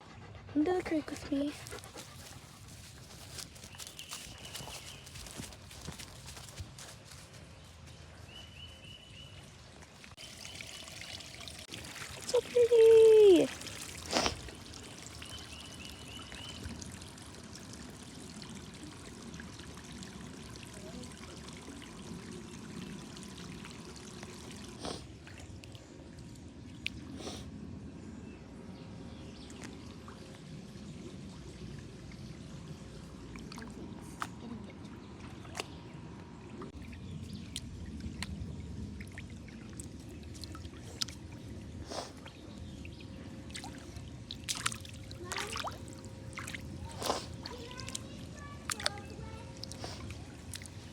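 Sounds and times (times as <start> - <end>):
creek water trickling: 0.1 - 28.0, 28.7 - 50.9.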